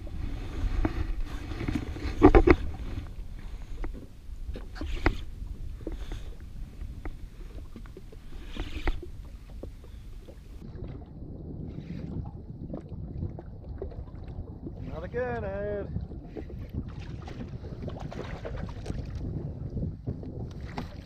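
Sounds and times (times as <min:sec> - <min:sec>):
wind and water rumble: 0:00.0 - 0:21.0.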